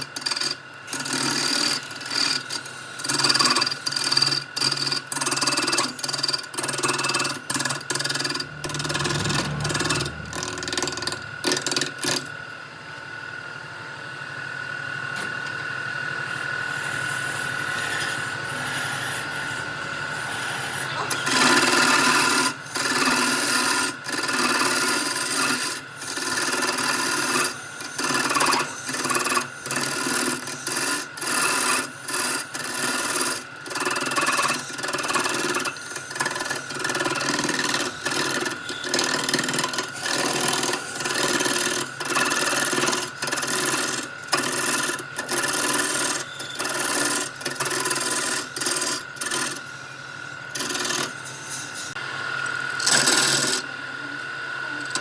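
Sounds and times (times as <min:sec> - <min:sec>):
rasping strokes on wood: 0:00.0 - 0:12.3, 0:16.8 - 0:52.0, 0:52.7 - 0:53.7.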